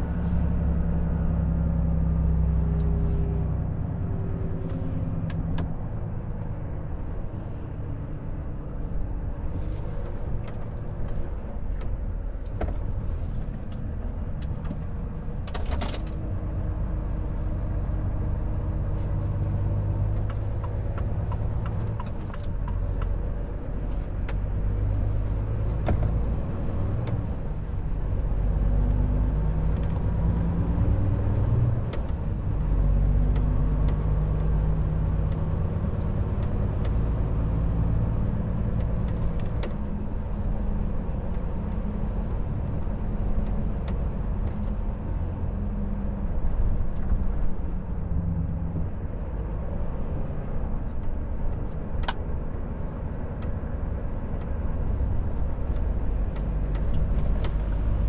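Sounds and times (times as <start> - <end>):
truck diesel engine rumbling: 0.0 - 58.0
tyre and road noise: 0.0 - 58.0.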